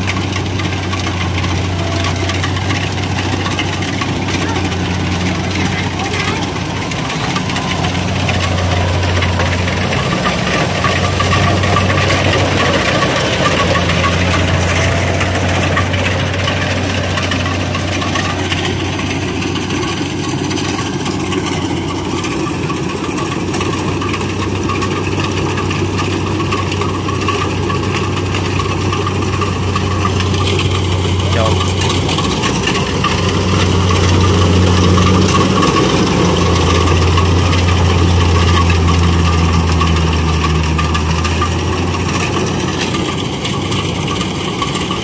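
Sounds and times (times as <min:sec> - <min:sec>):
combine harvester engine humming: 0:00.0 - 0:45.0
rattle of threshing works: 0:00.0 - 0:45.0.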